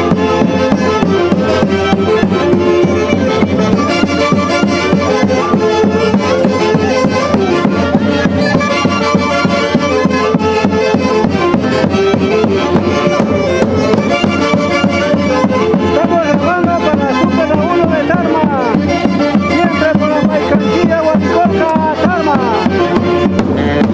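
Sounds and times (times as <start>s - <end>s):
orchestra playing traditional music: 0.0s - 23.9s.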